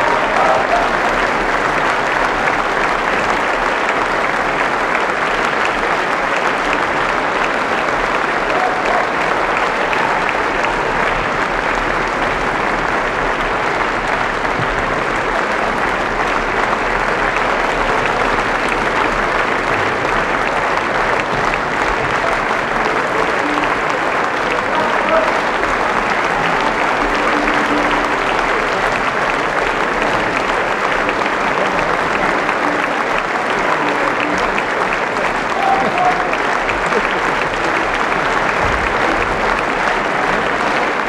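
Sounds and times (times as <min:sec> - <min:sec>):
audience applauding: 0:00.0 - 0:41.0.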